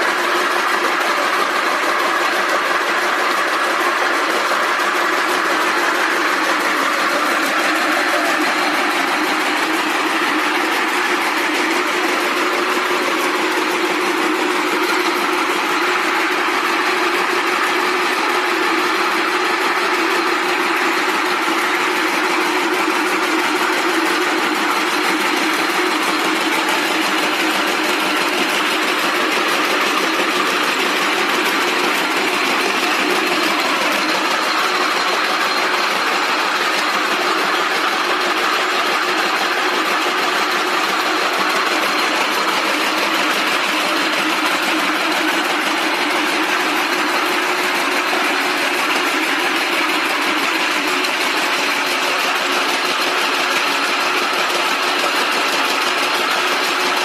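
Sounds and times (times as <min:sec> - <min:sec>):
braiding machines mechanical din: 0:00.0 - 0:57.0.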